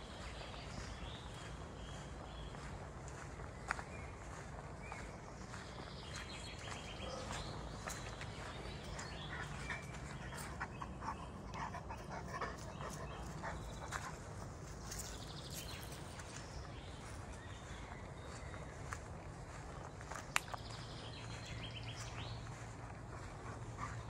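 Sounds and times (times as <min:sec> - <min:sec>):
dog footsteps on dirt path: 0:00.0 - 0:24.0.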